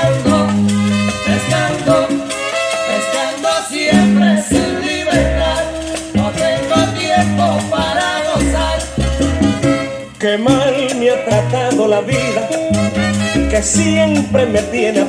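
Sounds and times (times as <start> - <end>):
bass line: 0.0 - 15.0
maracas: 0.0 - 15.0
salsa music on vinyl: 0.0 - 15.0.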